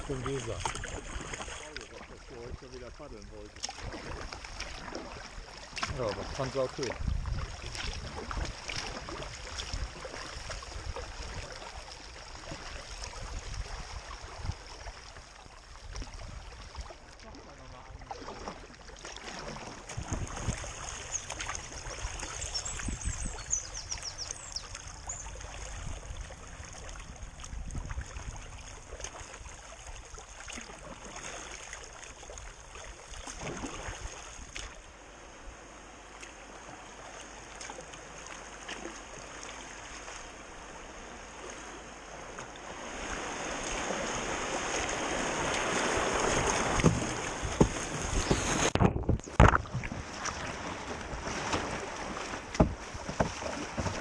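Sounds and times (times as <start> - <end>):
paddle strokes splashing: 0.0 - 54.0
rushing of shallow rapid: 0.0 - 54.0
water moving along hull: 0.0 - 54.0.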